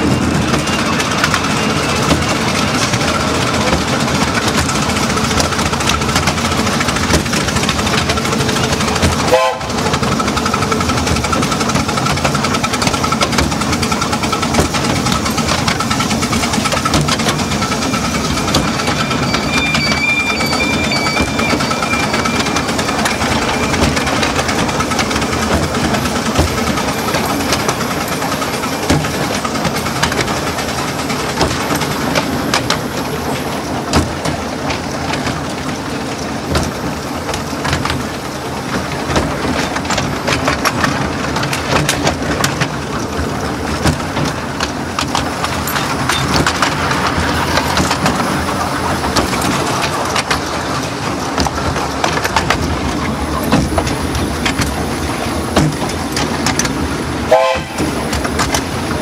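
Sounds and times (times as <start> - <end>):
rumble of wheels on rail: 0.0 - 59.0
wheels clicking over rail joints: 0.0 - 59.0.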